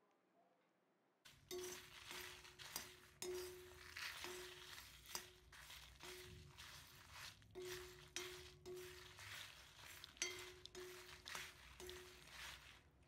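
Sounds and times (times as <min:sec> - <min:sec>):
metal ladle scraping cast-iron pan: 0:01.3 - 0:13.0.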